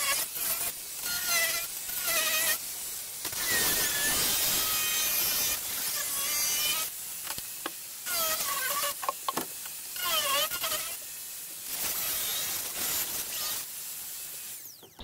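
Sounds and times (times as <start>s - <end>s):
angle grinder cutting fibreglass: 0.0s - 15.0s.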